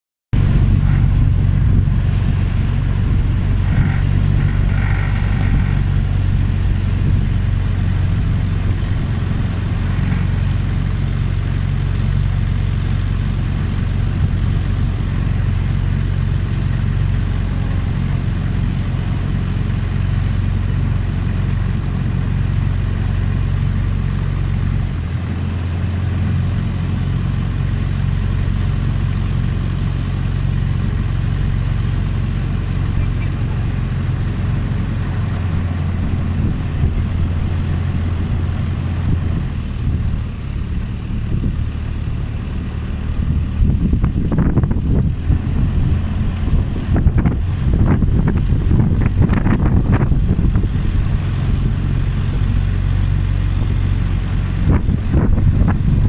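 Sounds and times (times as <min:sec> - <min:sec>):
boat engine droning: 0:00.3 - 0:56.0.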